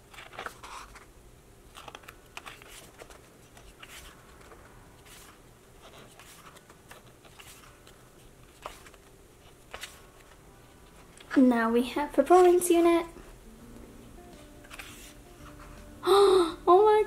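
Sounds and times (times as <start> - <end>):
book pages rustling: 0.0 - 11.4, 12.2 - 13.4, 14.4 - 15.9.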